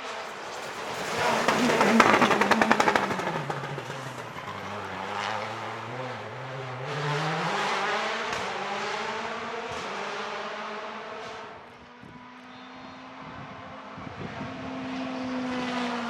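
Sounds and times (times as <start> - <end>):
rally car engine passing: 0.0 - 16.0.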